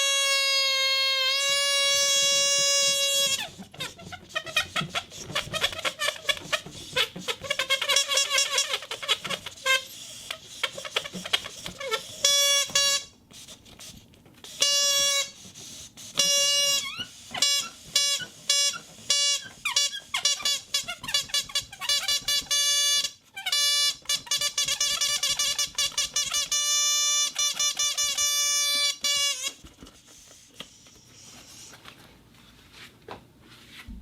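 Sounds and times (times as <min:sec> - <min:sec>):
toy whistle toots: 0:00.0 - 0:13.2, 0:14.5 - 0:15.4, 0:16.1 - 0:29.7.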